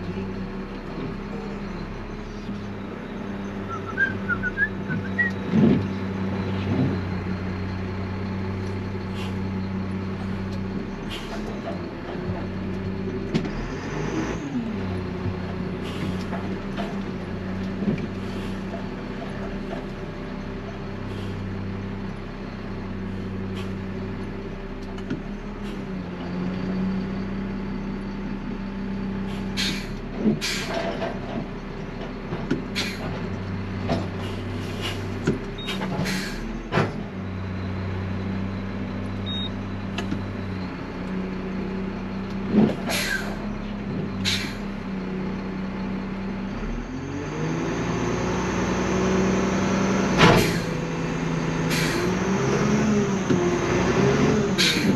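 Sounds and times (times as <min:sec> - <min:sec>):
garbage truck diesel engine: 0:00.0 - 0:54.9
hydraulics working: 0:00.0 - 0:54.9.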